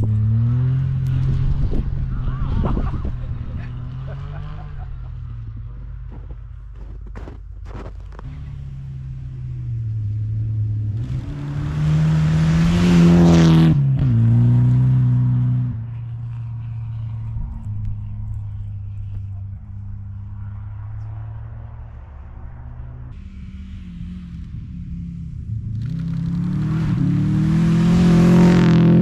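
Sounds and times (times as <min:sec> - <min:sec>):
rally car engine passing at high revs: 0:00.0 - 0:06.1, 0:08.3 - 0:29.0.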